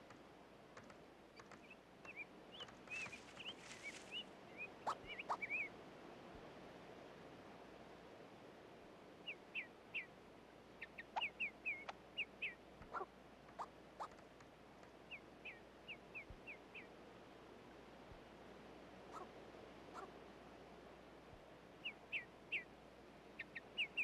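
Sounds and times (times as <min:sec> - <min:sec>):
faint forest ambience: 0:00.0 - 0:24.0.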